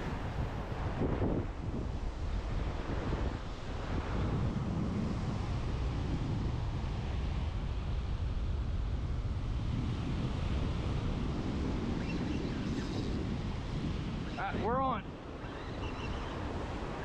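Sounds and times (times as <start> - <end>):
surf washing on beach: 0.0 - 17.0
wind buffeting microphone: 0.0 - 17.0.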